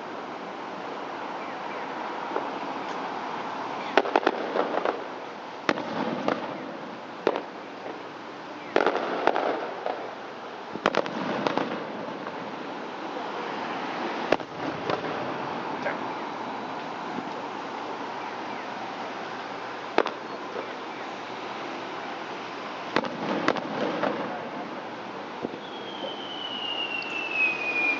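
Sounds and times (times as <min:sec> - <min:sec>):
firework crackling: 0:01.9 - 0:27.9.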